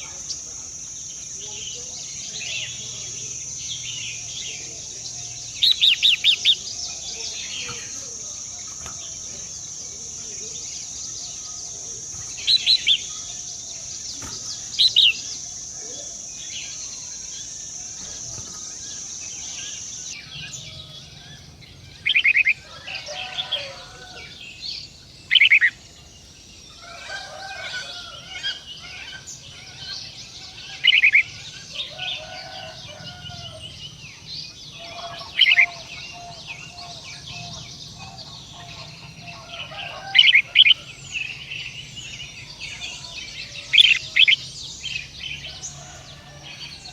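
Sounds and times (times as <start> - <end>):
low chattering bird calls: 0.0 - 46.9
steady high hiss: 0.0 - 46.9.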